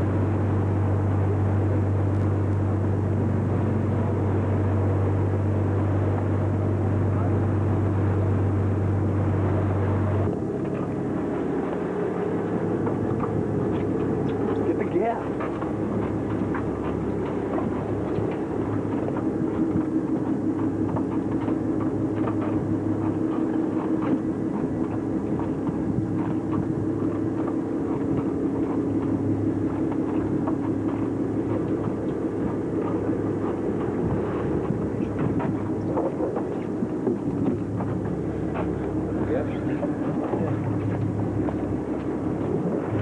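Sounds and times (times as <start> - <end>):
boat engine droning: 0.0 - 43.0.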